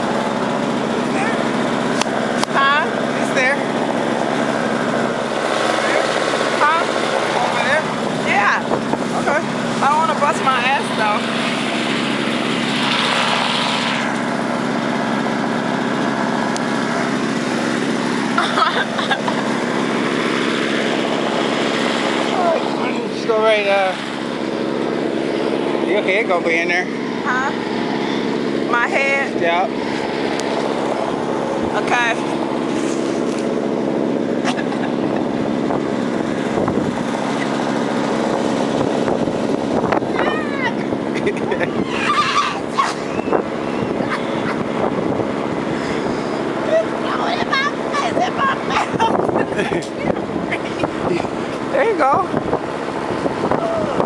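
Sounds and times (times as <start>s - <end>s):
snowblower engine running: 0.0s - 54.0s.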